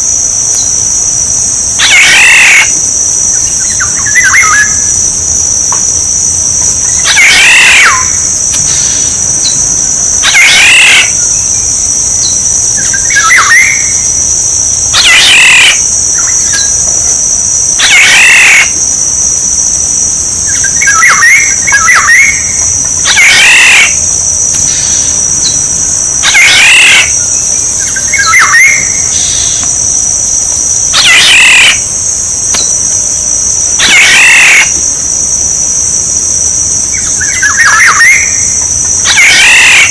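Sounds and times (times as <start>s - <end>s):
oriole calling: 0.0s - 17.0s, 17.8s - 18.8s, 20.4s - 29.7s, 30.8s - 35.1s, 36.8s - 39.9s
high-pitched insect drone: 0.0s - 39.9s.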